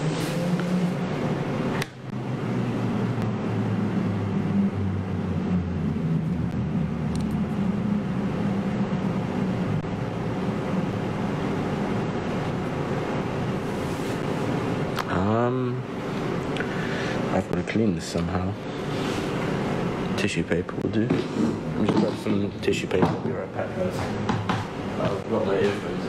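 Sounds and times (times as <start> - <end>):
faint hum: 0.0 - 26.0
low background rumble: 0.8 - 23.9.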